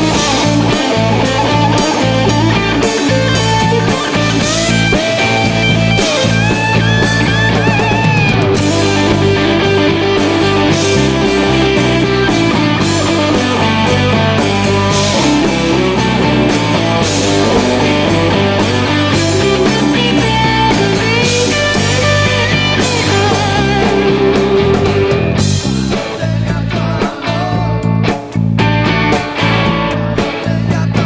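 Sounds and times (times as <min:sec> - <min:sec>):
drums and cymbals: 0:00.0 - 0:31.0
electric guitar: 0:00.0 - 0:31.0.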